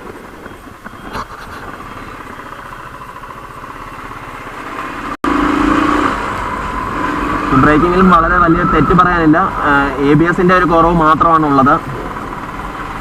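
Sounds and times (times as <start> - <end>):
motorcycle engine running: 0.0 - 8.7, 9.5 - 13.0.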